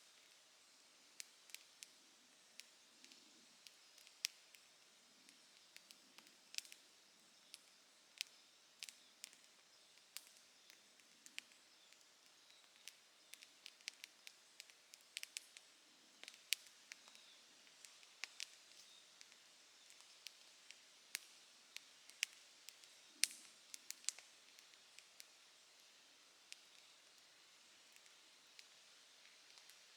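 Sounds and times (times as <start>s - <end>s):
campfire crackling and popping: 1.1s - 29.9s.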